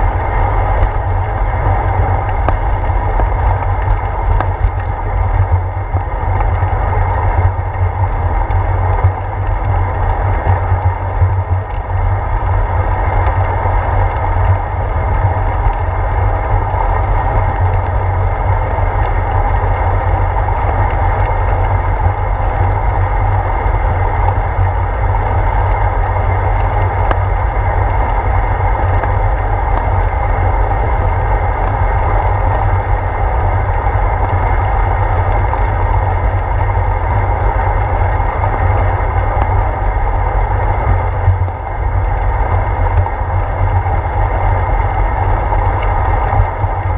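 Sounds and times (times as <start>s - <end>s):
wind and road rumble: 0.0s - 46.9s.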